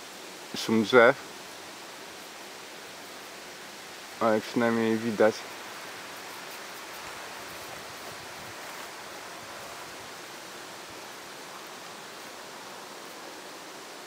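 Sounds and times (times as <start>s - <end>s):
wind rustling tree leaves: 0.0s - 14.0s.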